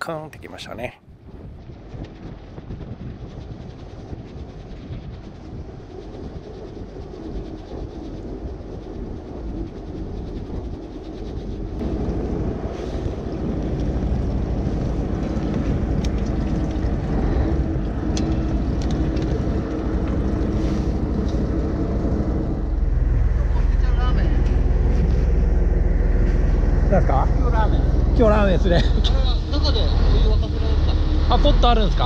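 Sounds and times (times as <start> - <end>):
wind on microphone: 0.3 - 32.0
boat engine rumble: 1.2 - 32.0.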